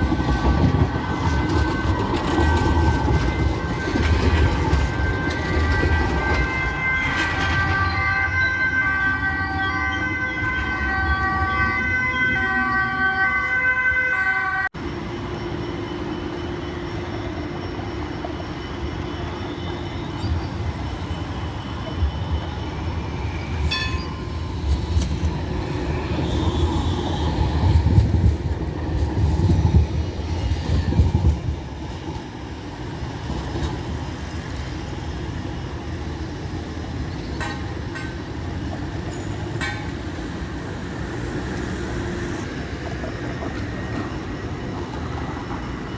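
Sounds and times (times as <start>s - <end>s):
tram rumbling past: 0.0s - 45.9s.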